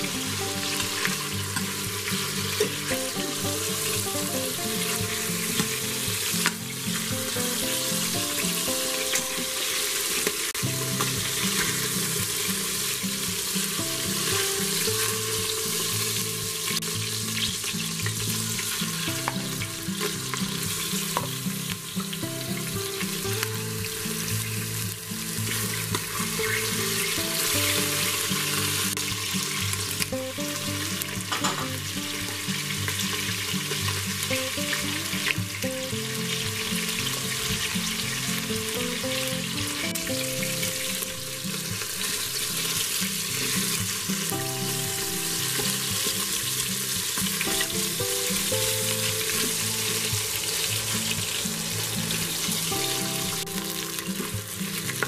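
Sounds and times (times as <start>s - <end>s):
meat and onion sizzling in oil: 0.0s - 55.0s.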